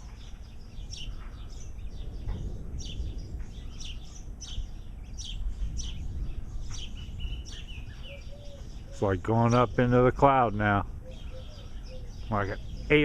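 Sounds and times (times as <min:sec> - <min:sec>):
low rumbling noise: 0:00.0 - 0:13.0
songbirds chirping: 0:00.0 - 0:13.0.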